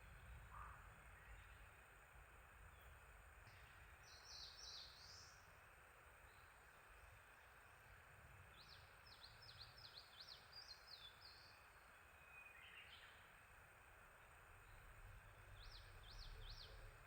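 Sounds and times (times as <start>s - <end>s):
songbird singing: 0.0s - 17.0s
steady background hiss: 0.0s - 17.0s.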